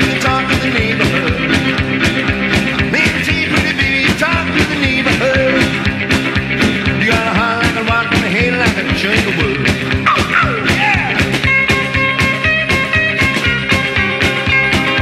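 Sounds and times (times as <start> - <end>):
fast drum and bass beat: 0.0 - 15.0.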